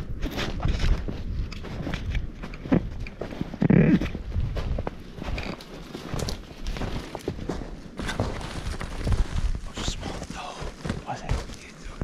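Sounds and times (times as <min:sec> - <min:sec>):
footsteps crunching in snow: 0:00.2 - 0:12.0.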